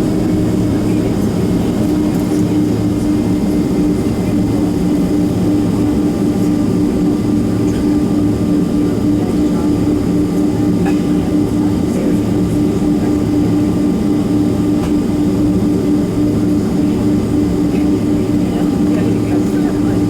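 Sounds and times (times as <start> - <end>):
jet engine cabin roar: 0.0 - 20.0.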